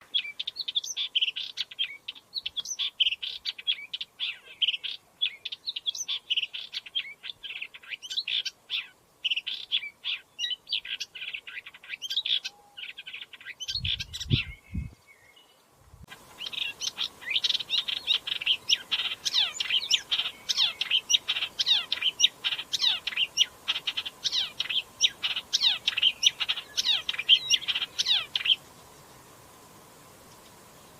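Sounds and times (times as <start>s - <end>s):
warbler singing fast notes: 0.1s - 15.5s, 16.1s - 28.6s.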